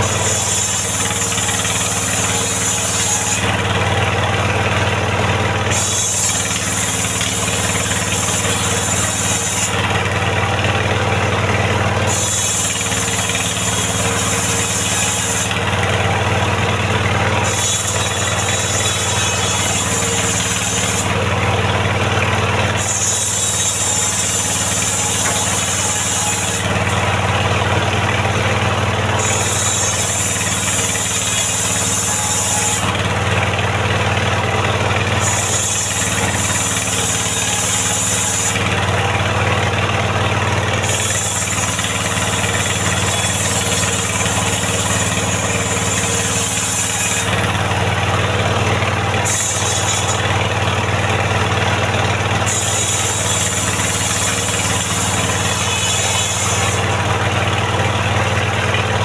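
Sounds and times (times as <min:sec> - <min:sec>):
circular saw blade whining in wood: 0:00.0 - 0:59.0
sawmill engine running: 0:00.0 - 0:59.0.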